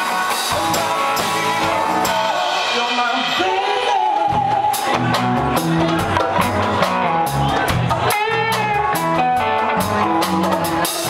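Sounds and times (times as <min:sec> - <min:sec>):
drum kit beating: 0:00.0 - 0:11.0
rock band playing: 0:00.0 - 0:11.0.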